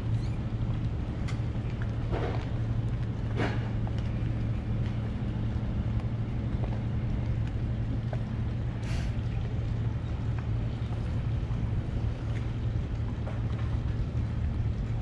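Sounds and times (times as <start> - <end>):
boat diesel engine humming: 0.0 - 15.0.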